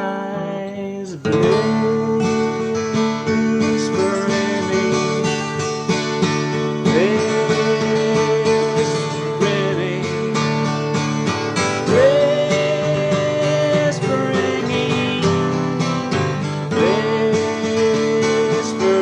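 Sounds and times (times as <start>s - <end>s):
acoustic guitar country-folk music: 0.0s - 19.0s
sliding guitar notes: 0.0s - 19.0s.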